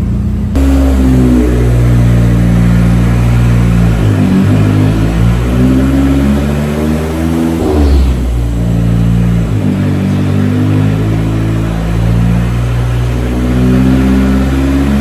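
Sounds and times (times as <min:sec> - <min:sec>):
loud engine on a dyno: 0:00.0 - 0:15.0.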